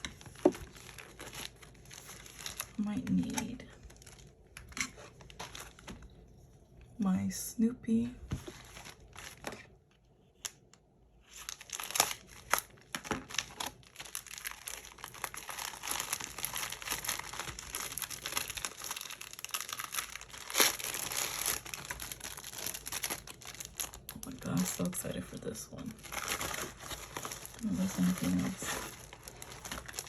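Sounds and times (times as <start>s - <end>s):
packaging crinkling and tearing: 0.0s - 6.3s, 8.4s - 9.8s, 10.4s - 30.0s.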